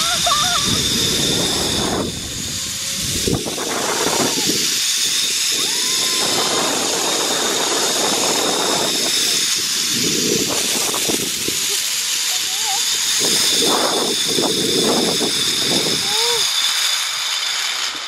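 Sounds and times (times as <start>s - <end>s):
wind buffeting microphone: 0.0s - 12.2s, 12.9s - 16.4s
trolley running along steel cable: 0.0s - 18.0s.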